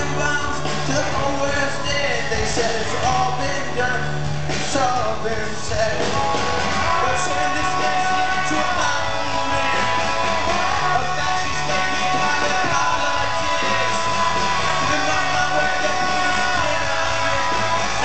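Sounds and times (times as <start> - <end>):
live rock band playing: 0.0 - 18.0
person singing: 0.0 - 18.0.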